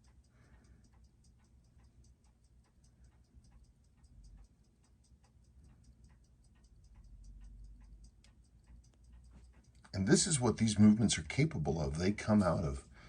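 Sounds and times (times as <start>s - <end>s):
watch ticking: 0.0s - 13.0s.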